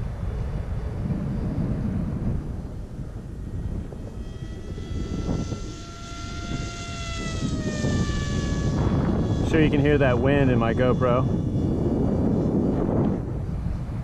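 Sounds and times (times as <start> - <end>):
electric propeller whining overhead: 0.0 - 14.0
wind rumble on microphone: 0.0 - 14.0.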